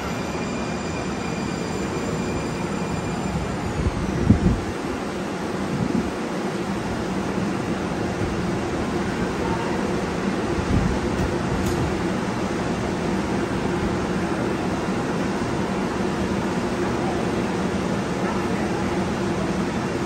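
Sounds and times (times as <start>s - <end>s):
train hum at platform: 0.0s - 20.0s.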